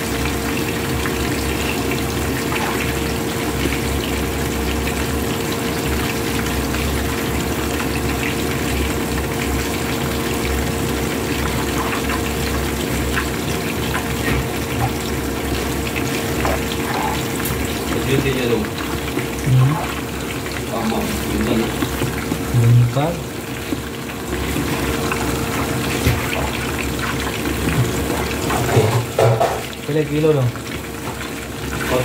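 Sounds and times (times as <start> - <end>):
fish deep-frying in oil: 0.0 - 32.0.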